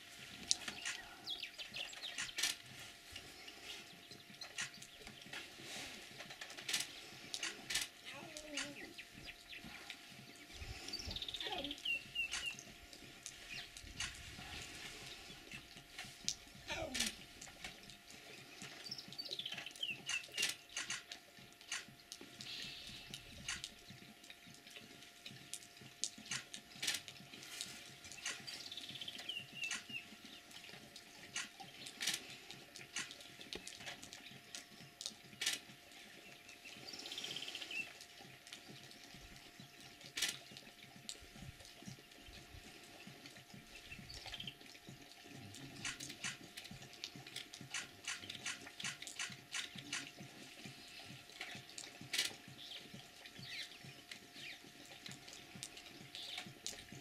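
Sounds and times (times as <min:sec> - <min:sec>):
lions lapping water: 0:00.0 - 0:57.0.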